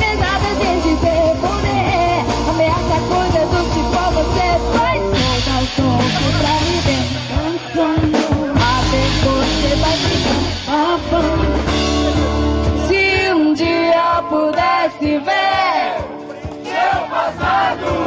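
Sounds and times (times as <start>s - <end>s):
woman singing lead: 0.0s - 16.0s
bass guitar: 0.0s - 18.0s
drums: 0.0s - 18.0s
electric guitars: 0.0s - 18.0s.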